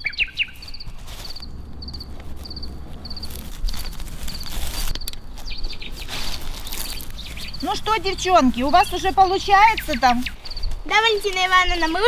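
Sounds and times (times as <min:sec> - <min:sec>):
cricket chirping: 0:00.0 - 0:12.0
low steady rumble: 0:00.0 - 0:12.0
rustling in needle litter: 0:00.0 - 0:12.0.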